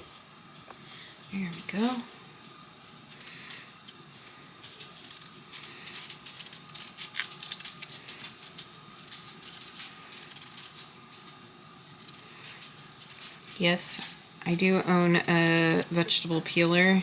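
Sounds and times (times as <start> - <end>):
knife scraping potato skin: 3.2 - 17.0.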